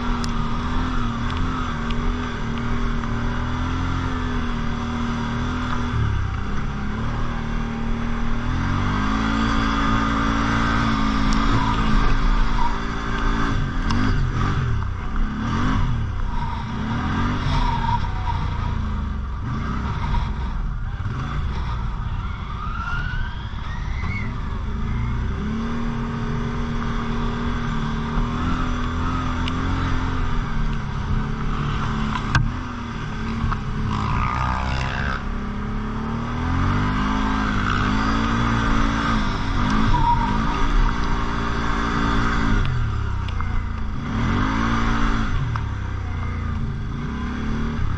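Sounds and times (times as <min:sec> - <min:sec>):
quad bike engine revving: 0:00.0 - 0:22.1, 0:23.4 - 0:47.9.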